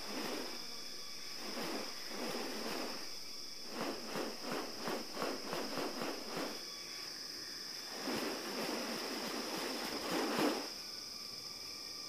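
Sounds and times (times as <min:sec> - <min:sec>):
bird wings swishing: 0:00.0 - 0:06.7, 0:07.8 - 0:10.8
insects droning: 0:00.0 - 0:12.0.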